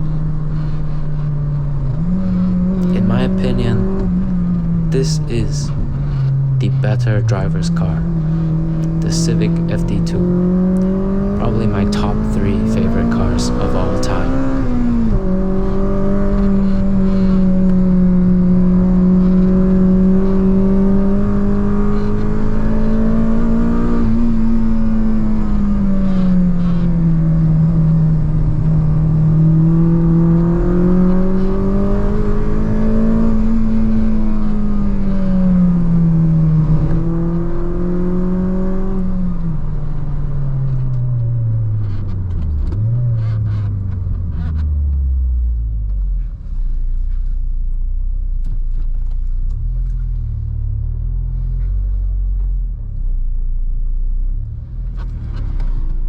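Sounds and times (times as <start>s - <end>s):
car engine revving: 0.0s - 47.4s.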